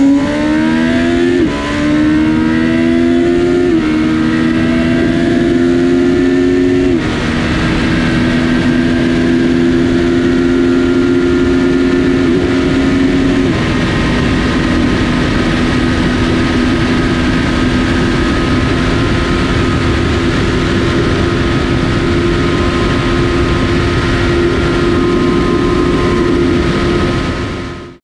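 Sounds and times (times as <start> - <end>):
motorcycle engine running: 0.0 - 28.0
wind rushing: 0.0 - 28.0.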